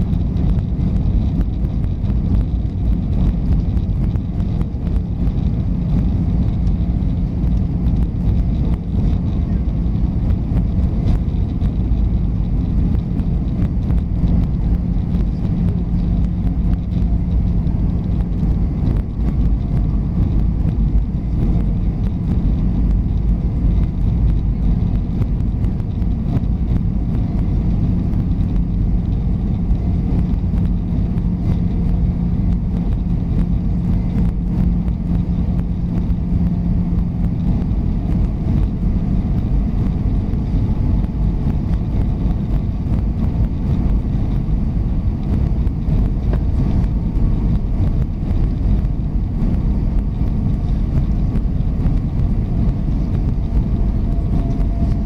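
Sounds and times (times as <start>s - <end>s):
airplane cabin airflow and engine: 0.0s - 55.0s
low steady hum: 0.0s - 55.0s.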